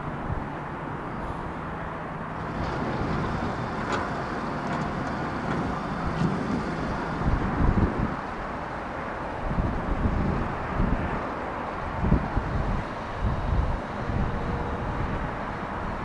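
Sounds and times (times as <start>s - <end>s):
distant jet engines rushing: 0.0s - 16.0s
wind buffeting microphone: 0.0s - 16.0s.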